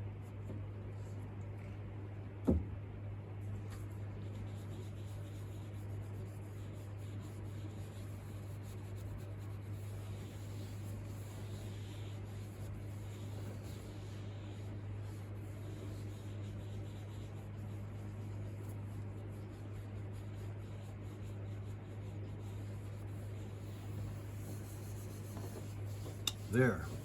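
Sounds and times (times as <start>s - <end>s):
steady low hum: 0.0s - 27.0s
pad rubbing on wood: 3.8s - 27.0s.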